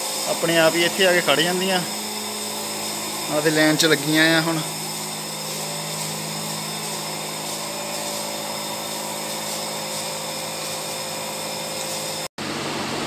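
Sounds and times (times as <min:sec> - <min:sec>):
milking machinery humming: 0:00.0 - 0:13.0.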